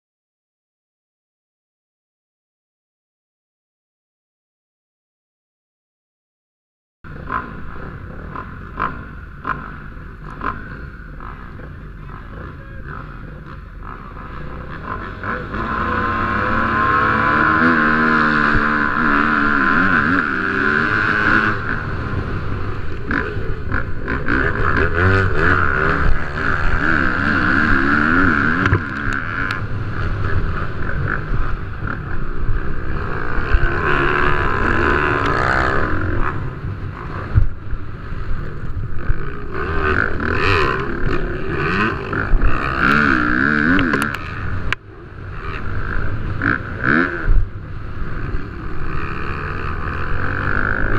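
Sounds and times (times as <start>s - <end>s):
motocross bikes revving: 7.1s - 50.9s.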